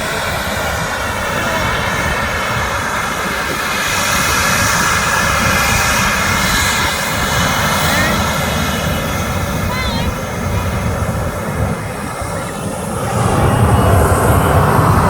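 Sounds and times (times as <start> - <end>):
high turbine whine: 0.0 - 15.0
jet engines at takeoff thrust: 0.0 - 15.0.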